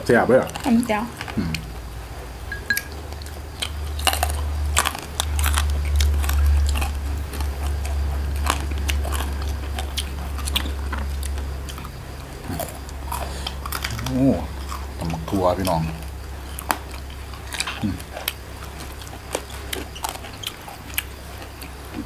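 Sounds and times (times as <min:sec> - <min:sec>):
chewing crisp food: 0:00.0 - 0:01.9, 0:02.5 - 0:22.0
low rumble: 0:01.3 - 0:19.2.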